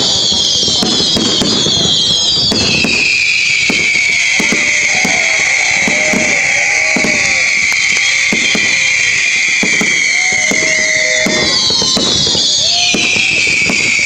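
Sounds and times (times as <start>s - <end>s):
falling firework whistle: 0.0s - 14.0s
fireworks bangs: 0.0s - 14.0s
fireworks crackling: 0.0s - 14.0s.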